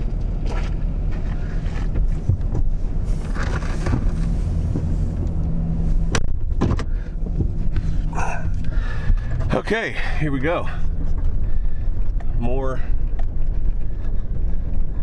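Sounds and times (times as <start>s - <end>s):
vehicle engine and road drone: 0.0s - 15.0s.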